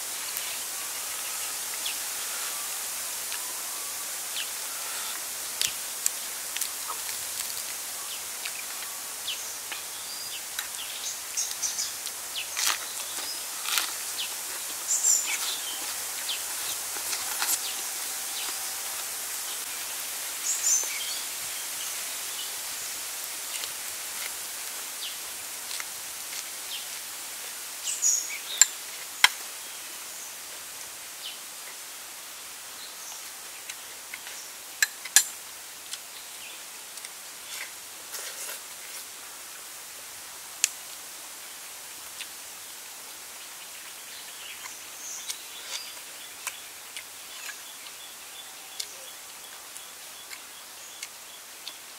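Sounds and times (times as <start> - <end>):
forest ambience hiss: 0.0 - 51.9.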